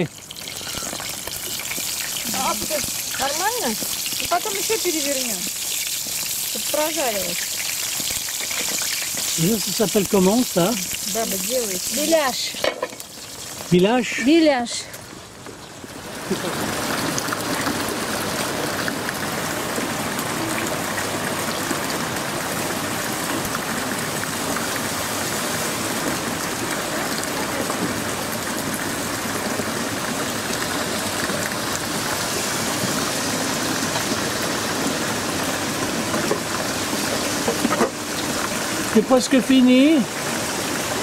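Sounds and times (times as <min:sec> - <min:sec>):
rain on wet paving: 0:00.0 - 0:41.0.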